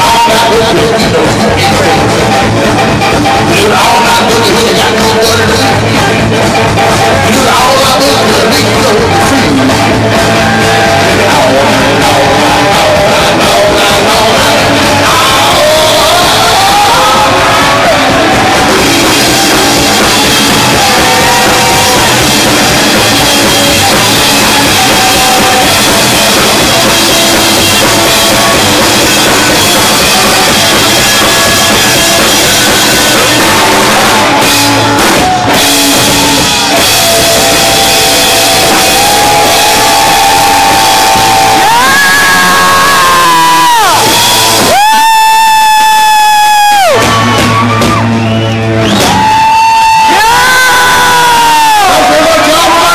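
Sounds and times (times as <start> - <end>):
drum kit: 0.0 - 52.9
rock band playing: 0.0 - 52.9.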